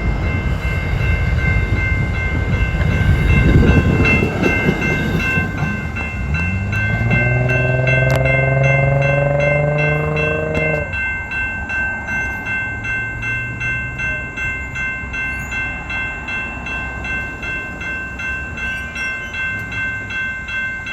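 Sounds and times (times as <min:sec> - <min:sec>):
crossing warning bell ringing: 0:00.0 - 0:20.9
low rumble of passing train: 0:00.0 - 0:20.9.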